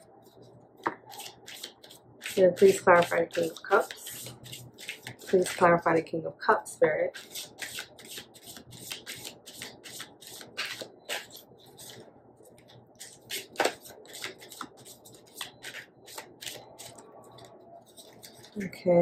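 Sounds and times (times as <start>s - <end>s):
cards being shuffled: 0.8s - 5.6s, 7.2s - 18.6s.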